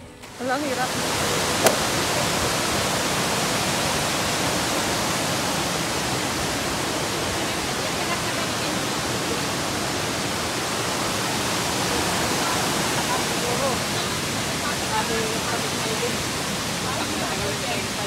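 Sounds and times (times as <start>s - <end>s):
river flowing over rocks: 0.0s - 18.0s
waterfall rushing: 0.0s - 18.0s.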